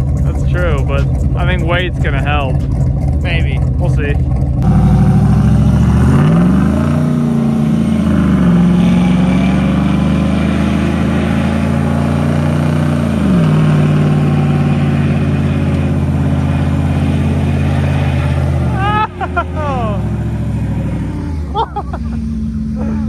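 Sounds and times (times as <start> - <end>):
engines revving hard: 0.0 - 23.0.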